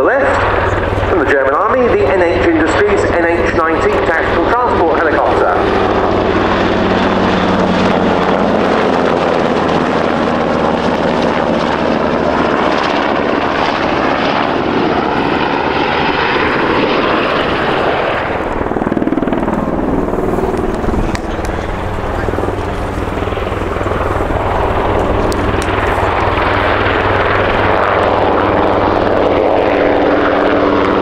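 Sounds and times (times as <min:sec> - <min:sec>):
helicopter flying past: 0:00.0 - 0:31.0.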